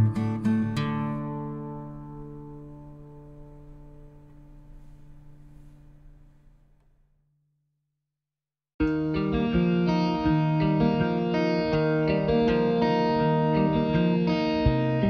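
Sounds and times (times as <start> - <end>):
strummed guitar chords: 0.0 - 6.5, 8.8 - 15.0.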